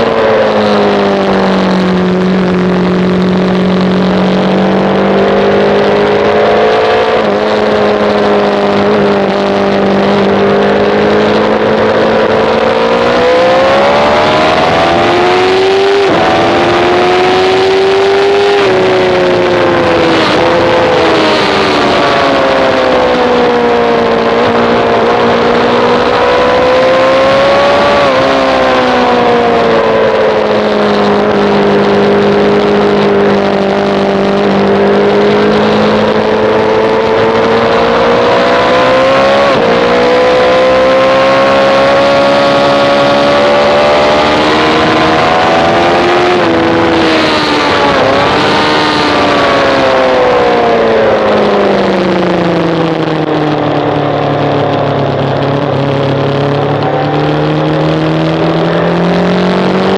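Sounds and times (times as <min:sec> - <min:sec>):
motorcycle engine revving hard: 0:00.0 - 0:59.9.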